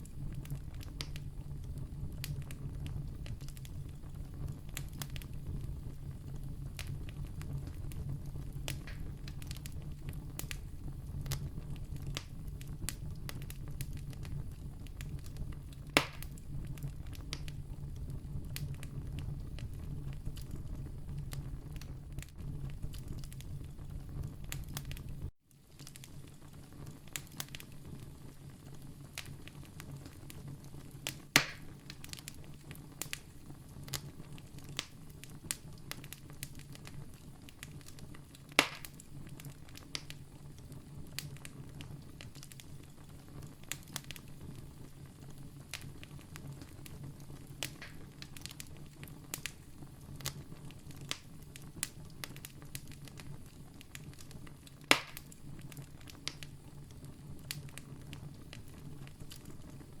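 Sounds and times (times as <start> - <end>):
campfire crackling: 0.0 - 60.0
fire snaps: 0.0 - 60.0.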